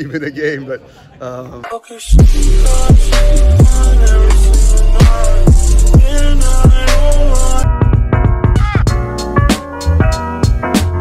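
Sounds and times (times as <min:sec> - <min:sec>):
music with steady beat: 0:02.1 - 0:11.0.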